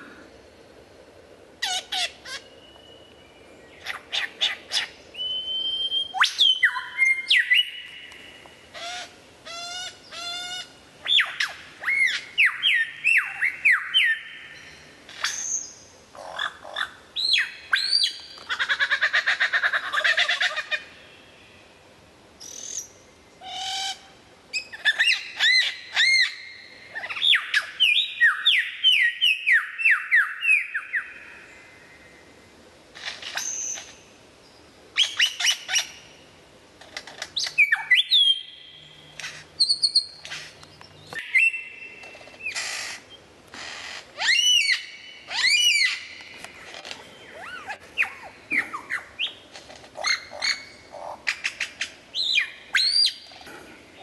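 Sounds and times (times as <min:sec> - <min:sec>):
lyrebird singing: 0:01.6 - 0:20.9, 0:22.4 - 0:31.3, 0:37.0 - 0:54.0.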